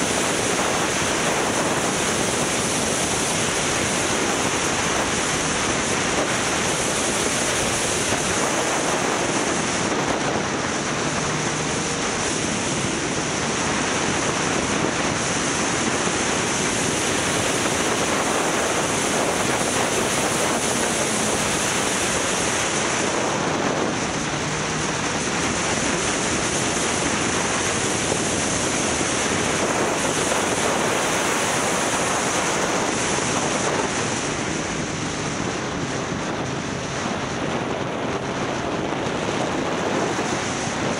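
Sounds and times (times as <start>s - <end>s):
wind roaring over microphone: 0.0s - 40.9s.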